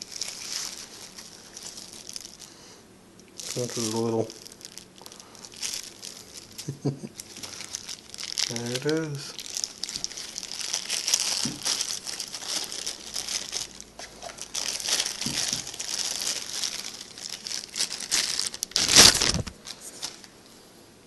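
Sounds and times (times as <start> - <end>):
plastic bag crinkling: 0.0 - 20.4.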